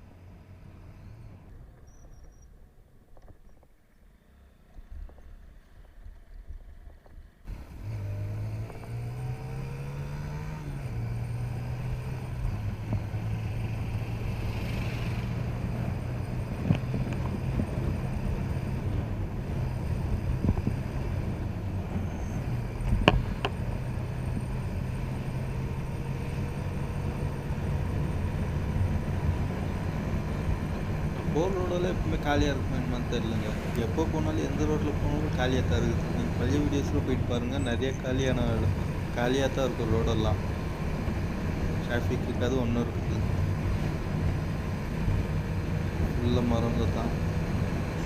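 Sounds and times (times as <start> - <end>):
motorcycle engine running: 4.6 - 48.0.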